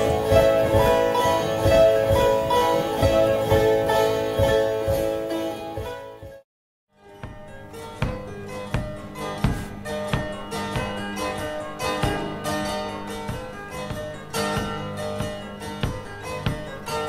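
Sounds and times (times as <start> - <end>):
box zither strummed: 0.0 - 6.1, 7.0 - 17.0.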